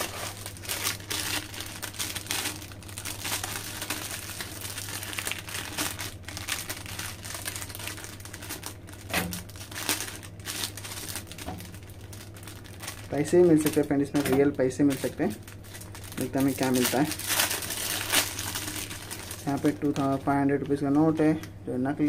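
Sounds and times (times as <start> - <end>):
plastic sachet crinkling: 0.0 - 21.4
low steady hum: 0.0 - 22.0.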